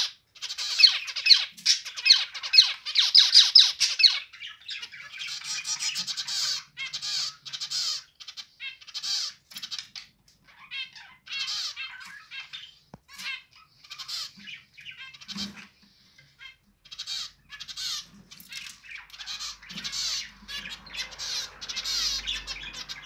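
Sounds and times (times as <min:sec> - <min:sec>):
finches chirping: 0:00.0 - 0:23.0.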